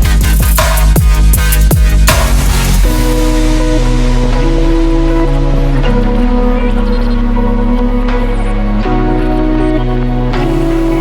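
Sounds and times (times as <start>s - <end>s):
slow sustained synth chords: 0.0s - 11.0s.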